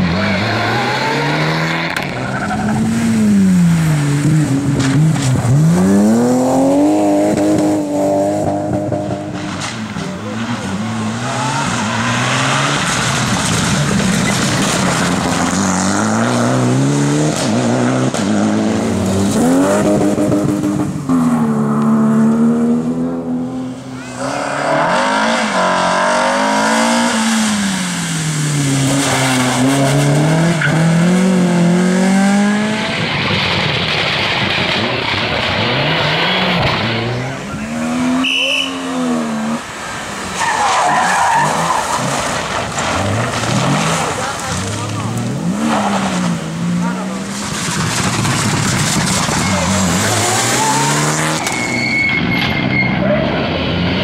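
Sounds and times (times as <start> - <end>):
rally cars passing at speed: 0.0 - 54.0.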